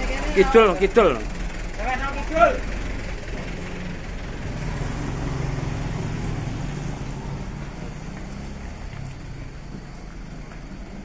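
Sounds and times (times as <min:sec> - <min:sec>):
background rumble: 0:00.0 - 0:11.0
large engine humming: 0:00.0 - 0:11.0.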